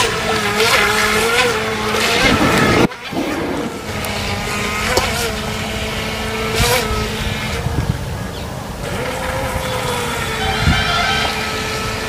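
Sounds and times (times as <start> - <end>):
electric motor whining: 0.0 - 7.9, 8.8 - 12.0.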